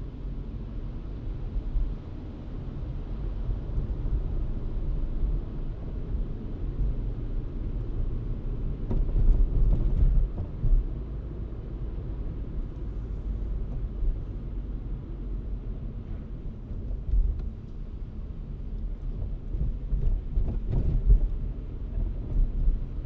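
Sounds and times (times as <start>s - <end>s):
car driving rumble: 0.0s - 23.0s.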